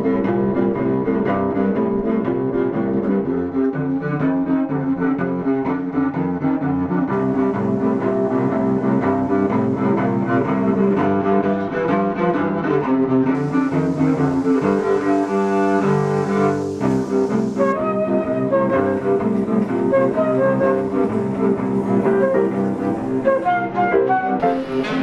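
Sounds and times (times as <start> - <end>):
bowed cello music: 0.0 - 25.0.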